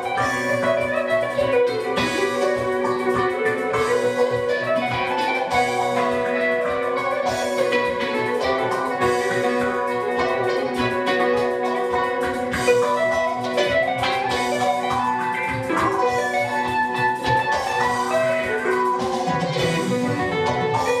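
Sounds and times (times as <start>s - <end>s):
band music with drum beat: 0.0s - 21.0s.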